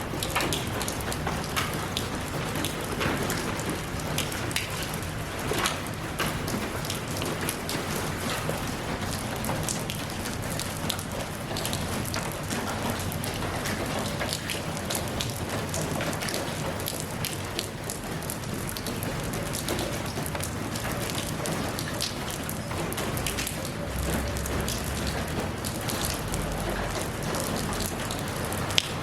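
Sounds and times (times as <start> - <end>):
rain falling: 0.0 - 29.0
raindrops ticking on a surface: 0.0 - 29.0.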